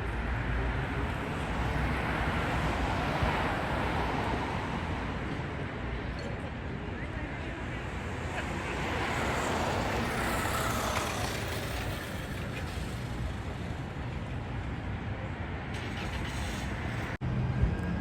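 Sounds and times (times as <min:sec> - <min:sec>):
road traffic rushing past: 0:00.0 - 0:18.0.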